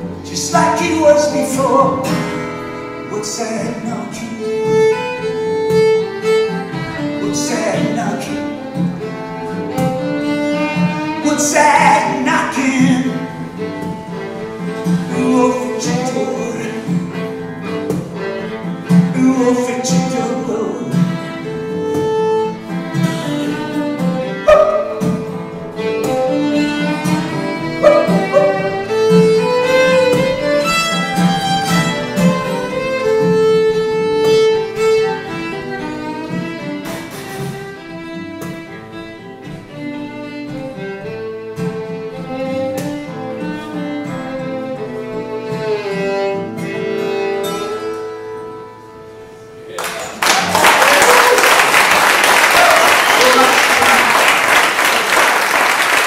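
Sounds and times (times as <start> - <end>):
fiddle melody: 0.0 - 49.8
acoustic guitar rhythm: 0.0 - 56.0.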